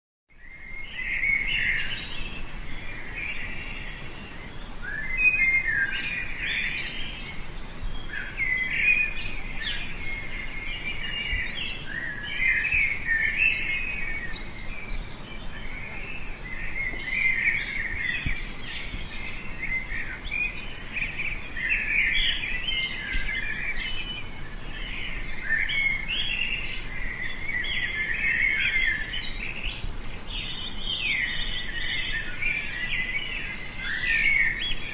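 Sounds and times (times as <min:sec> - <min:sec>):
songbirds chirping and singing: 0:00.3 - 0:34.9
faint background hiss: 0:00.4 - 0:34.9.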